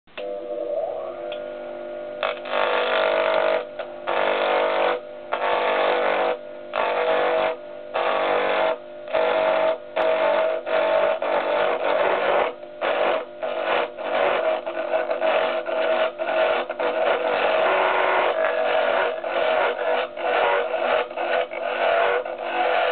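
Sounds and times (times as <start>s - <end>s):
lathe motor whine: 0.2s - 22.9s
tool scraping spinning wood: 2.2s - 22.9s.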